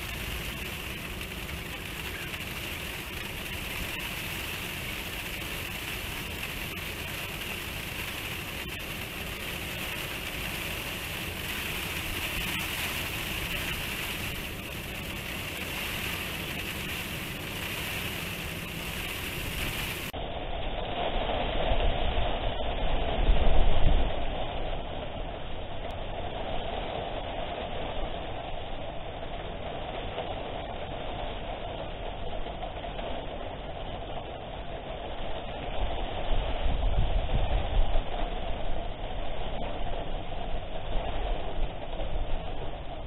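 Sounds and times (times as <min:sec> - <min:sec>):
heavy rain: 0:00.0 - 0:43.0
wind gusts on microphone: 0:00.0 - 0:43.0.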